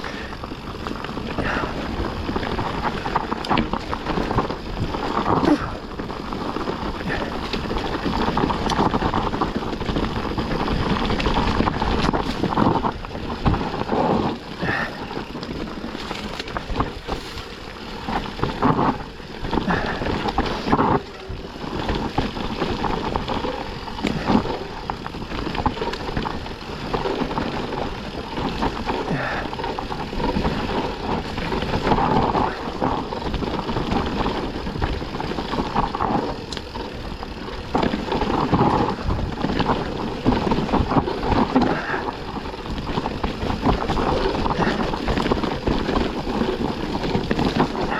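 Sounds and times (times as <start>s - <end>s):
bike knocking and rattling: 0.0s - 47.9s
tyres rushing on dirt: 0.0s - 47.9s.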